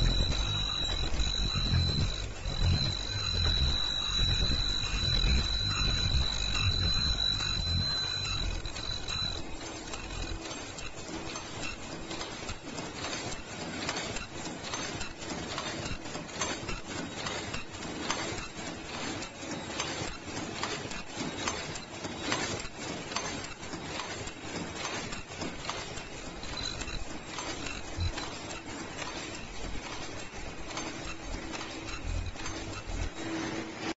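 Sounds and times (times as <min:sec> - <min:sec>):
machine clicking and clacking: 0:00.0 - 0:33.9.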